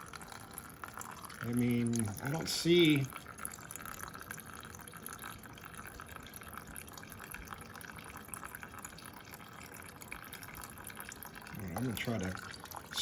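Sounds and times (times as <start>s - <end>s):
fuel trickling through hose: 0.0s - 13.0s.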